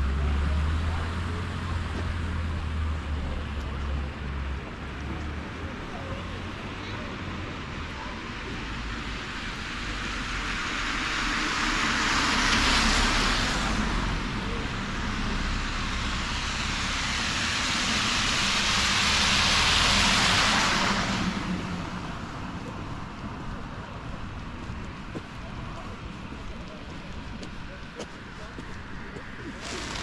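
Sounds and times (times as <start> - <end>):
cars passing with tyre hiss: 0.0 - 30.0.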